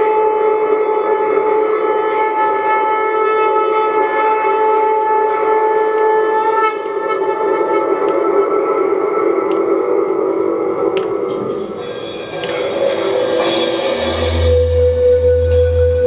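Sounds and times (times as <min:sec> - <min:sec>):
conch shell blown: 0:00.0 - 0:11.4, 0:13.2 - 0:16.0.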